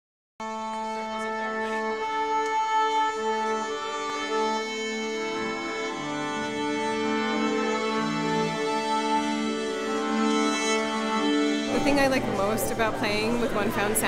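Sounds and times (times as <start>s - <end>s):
string ensemble playing slow notes: 0.4s - 14.0s.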